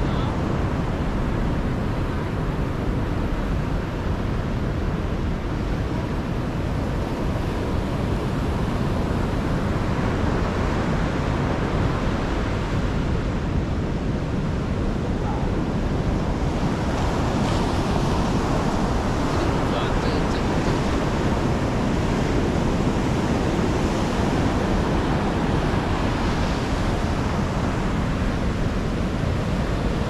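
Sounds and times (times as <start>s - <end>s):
sea surf washing onto beach: 0.0s - 30.0s
wind buffeting microphone: 0.0s - 30.0s.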